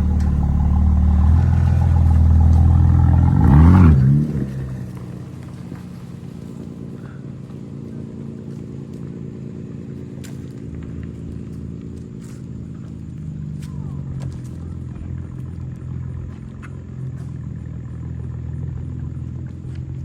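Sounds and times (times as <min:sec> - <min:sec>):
car engine revving: 0:00.0 - 0:20.0
car engine running: 0:00.0 - 0:20.0.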